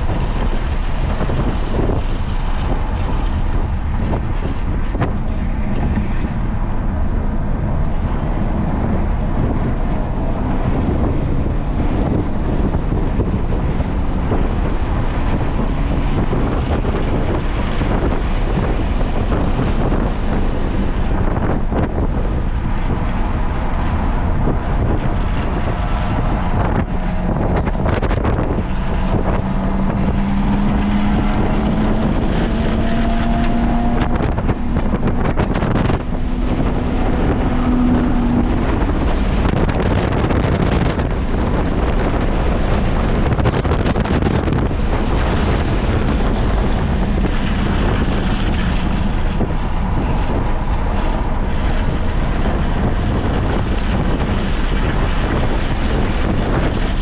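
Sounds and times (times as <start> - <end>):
car engine: 0.0 - 57.0
wind rushing on microphone: 0.0 - 57.0.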